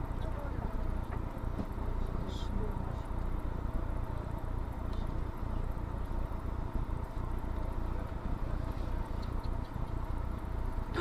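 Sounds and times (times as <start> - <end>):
car engines idling: 0.0 - 11.0
road traffic rumble: 0.0 - 11.0.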